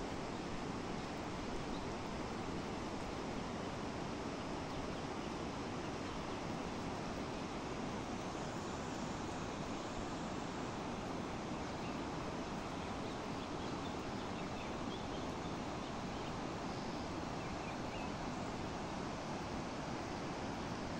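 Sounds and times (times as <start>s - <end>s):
river rushing roar: 0.0s - 20.9s.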